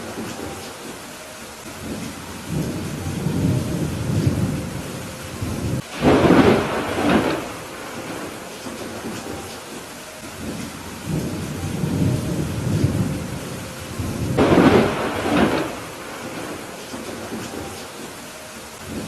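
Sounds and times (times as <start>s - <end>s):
steady rain: 0.0s - 19.0s
sharp thunderclap: 1.8s - 9.7s, 10.4s - 18.0s
rolling thunder: 1.8s - 18.2s.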